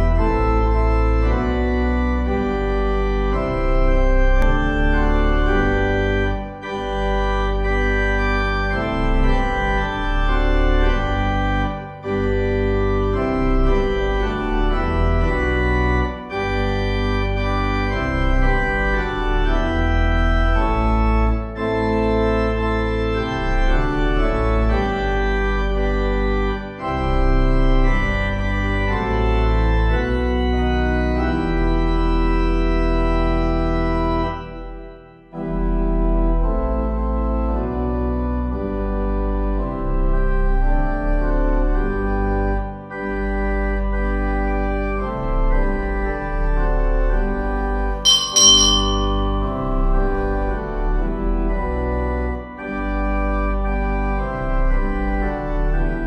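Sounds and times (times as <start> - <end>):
organ playing held chords: 0.0 - 56.0.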